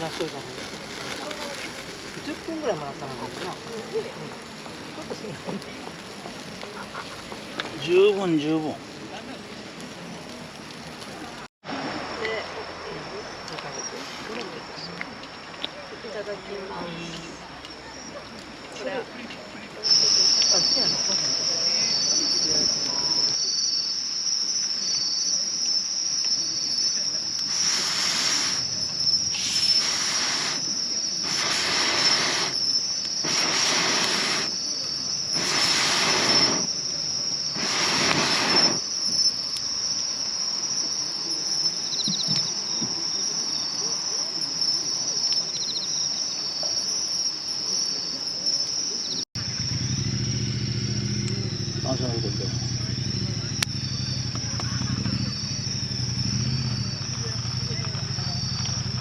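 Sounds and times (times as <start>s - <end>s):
insects trilling: 0.0s - 11.5s, 12.1s - 59.0s.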